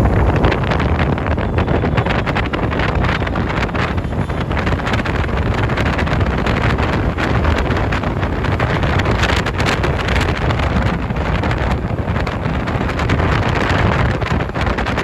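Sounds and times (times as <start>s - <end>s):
street traffic din: 0.0s - 15.0s
wind buffeting microphone: 0.0s - 15.0s.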